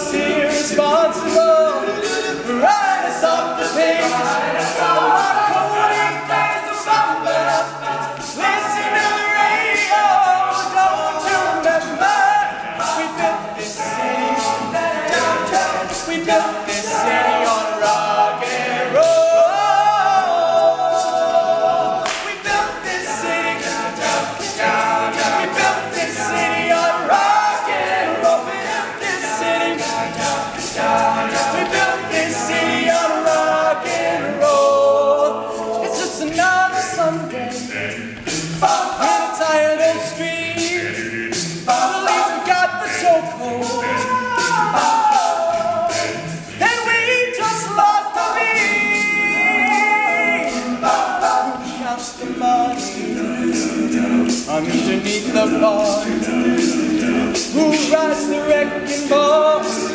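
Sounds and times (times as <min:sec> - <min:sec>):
male group singing in harmony: 0:00.0 - 0:59.9
percussive beat: 0:00.0 - 0:59.9.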